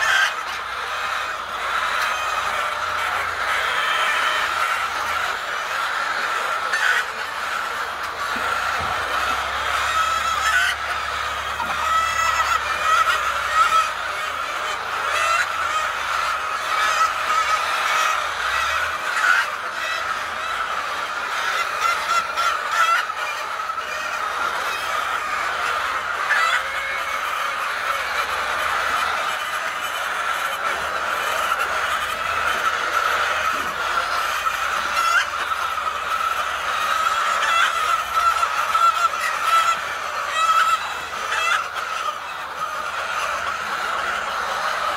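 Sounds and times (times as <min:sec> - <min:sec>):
flock of fowl calling: 0:00.0 - 0:44.9.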